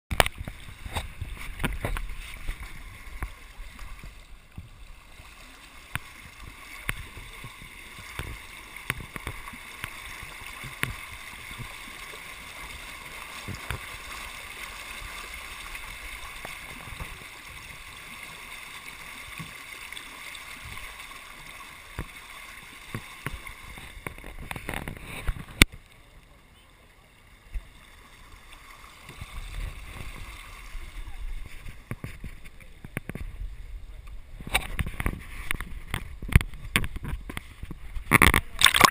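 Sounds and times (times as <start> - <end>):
water lapping against boat hull: 0.1 - 26.7, 27.4 - 38.9.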